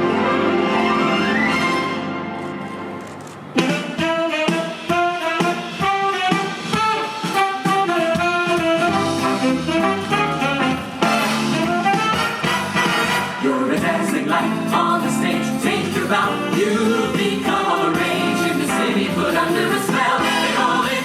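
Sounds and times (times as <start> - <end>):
jazzy brass show music: 0.0 - 21.0.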